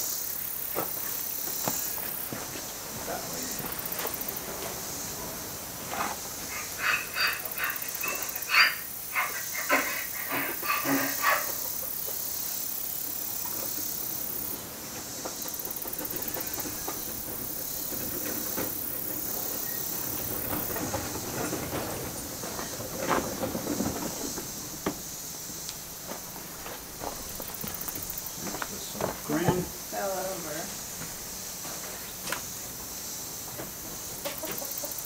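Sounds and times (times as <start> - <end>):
steady high hiss: 0.0 - 35.0.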